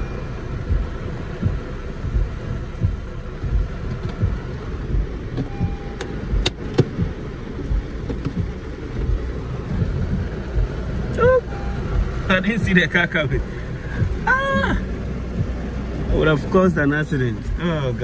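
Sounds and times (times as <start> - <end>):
low thumps: 0.0 - 12.3, 13.8 - 16.2
road and rain noise in car: 0.0 - 18.0.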